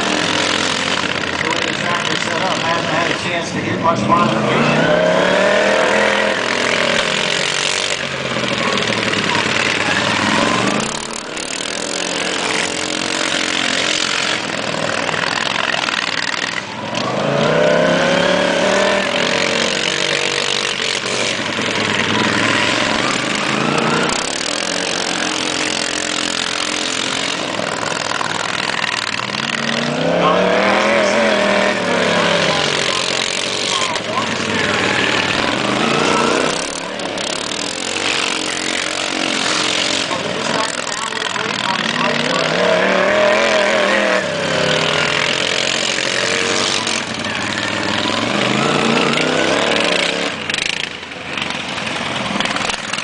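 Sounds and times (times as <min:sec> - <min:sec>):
racing lawn mower engines: 0:00.0 - 0:53.0.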